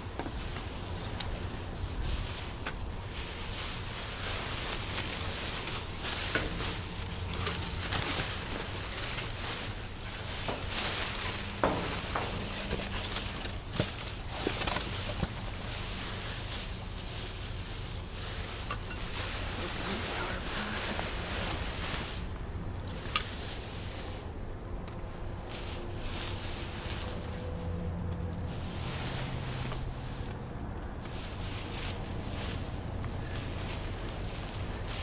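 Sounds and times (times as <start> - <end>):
rustling through discarded items: 0.0 - 24.3, 25.3 - 35.0
steady background hiss: 0.0 - 35.0.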